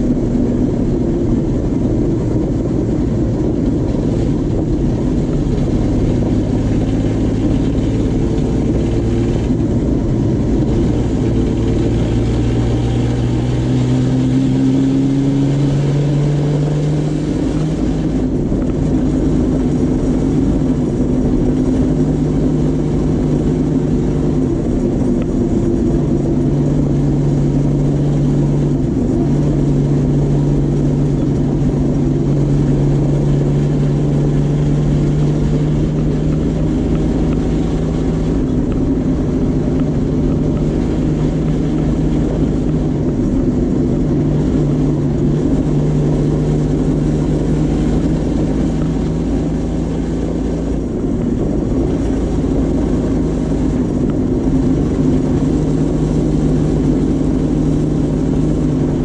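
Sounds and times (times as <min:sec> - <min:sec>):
race car engine: 0:00.0 - 0:59.0
road and wind noise: 0:00.0 - 0:59.0.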